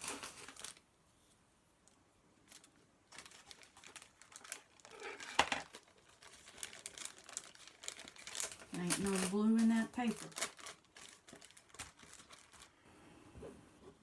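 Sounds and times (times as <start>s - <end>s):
paper rustling and crinkling: 0.0s - 0.9s, 2.4s - 12.8s.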